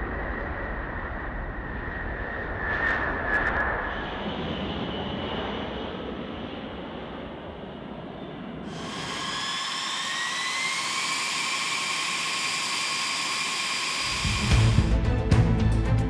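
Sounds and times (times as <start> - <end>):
jet engines with high whine: 0.0 - 15.8.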